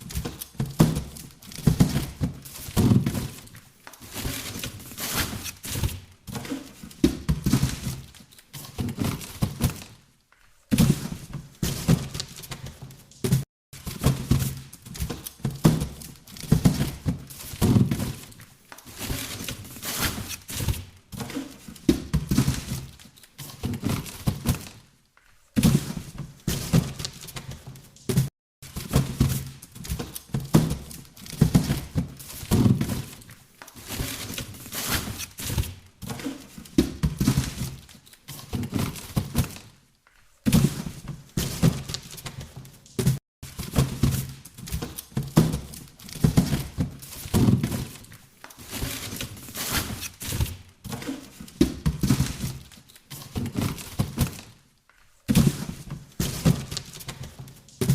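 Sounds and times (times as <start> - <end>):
rustling scrapes: 0.0 - 9.3, 10.8 - 24.7, 25.6 - 39.6, 40.5 - 54.4
boxes knocking and thudding: 0.0 - 10.0, 10.7 - 24.9, 25.6 - 39.8, 40.4 - 54.6, 55.3 - 57.9.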